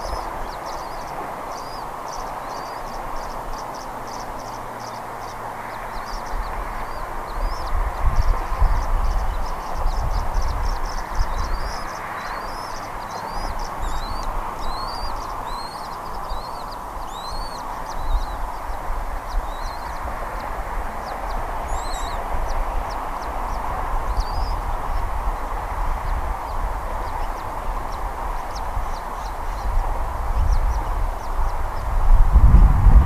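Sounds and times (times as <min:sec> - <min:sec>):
steady rushing noise: 0:00.0 - 0:33.0.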